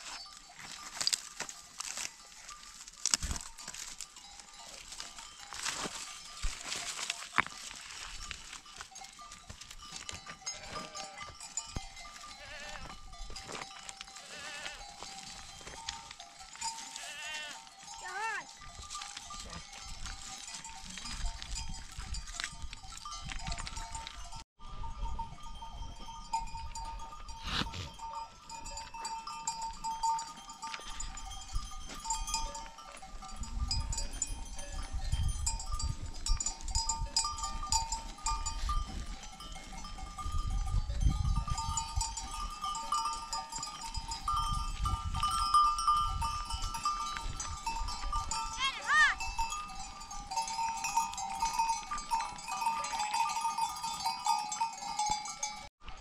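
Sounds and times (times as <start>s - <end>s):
small bells ringing: 0.0s - 55.7s.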